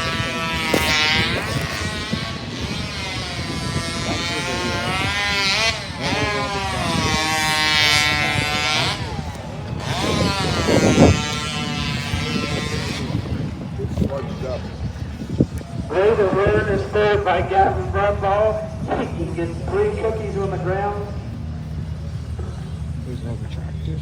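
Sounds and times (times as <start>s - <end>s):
engine saw cutting log: 0.0s - 24.0s.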